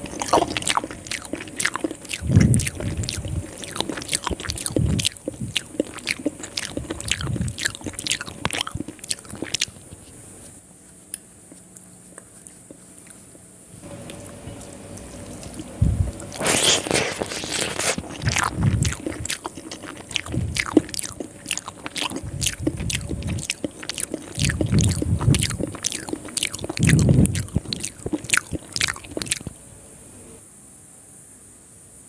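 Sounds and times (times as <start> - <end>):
lip smacks and mouth clicks: 0.0 - 13.4, 14.0 - 29.6
wet chewing: 0.0 - 29.6.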